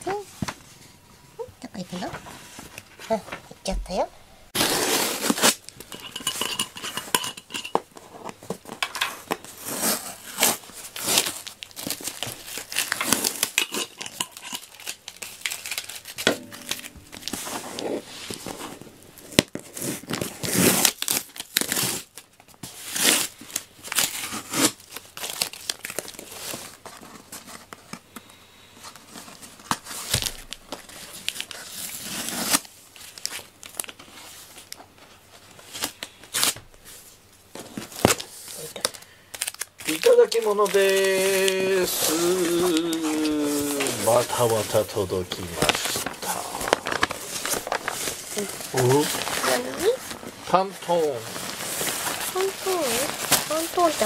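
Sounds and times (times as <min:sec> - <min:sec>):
packing tape ripping off cardboard: 0:04.6 - 0:05.9, 0:07.9 - 0:28.0, 0:28.9 - 0:34.8, 0:35.5 - 0:36.9, 0:37.6 - 0:50.5, 0:51.1 - 0:54.0.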